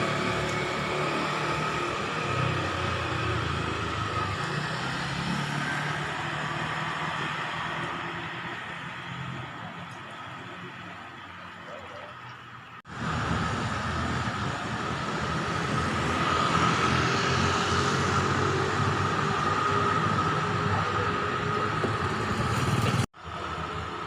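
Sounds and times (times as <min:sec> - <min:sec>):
motor traffic passing: 0:00.0 - 0:24.0.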